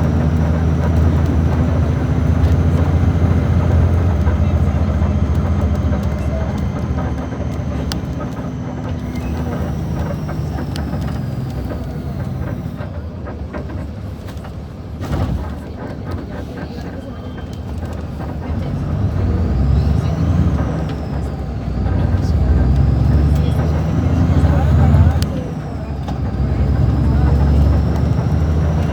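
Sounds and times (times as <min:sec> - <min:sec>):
bus diesel engine running: 0:00.0 - 0:28.9.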